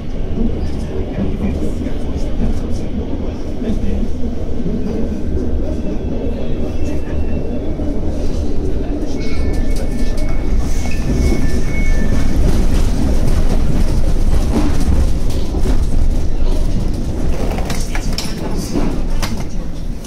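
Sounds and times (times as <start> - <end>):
underground train rumble: 0.0 - 20.0.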